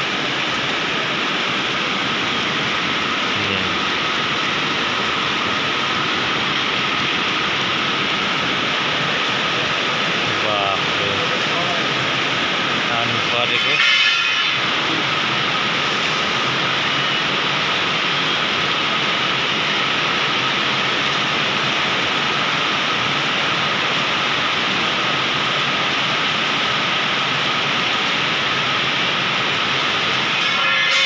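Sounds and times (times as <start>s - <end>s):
heavy rain pouring on pavement: 0.0s - 31.0s.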